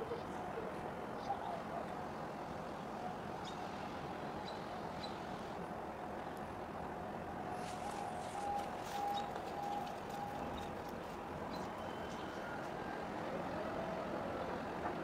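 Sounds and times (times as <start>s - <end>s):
distant engines rumbling: 0.0s - 15.0s.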